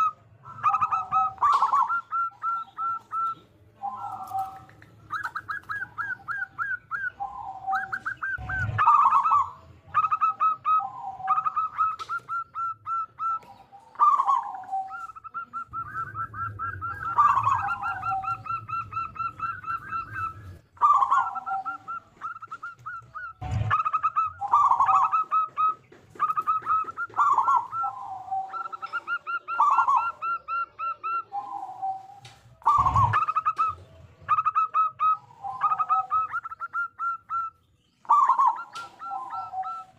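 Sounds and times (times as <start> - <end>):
dove cooing song: 0.0 - 39.9.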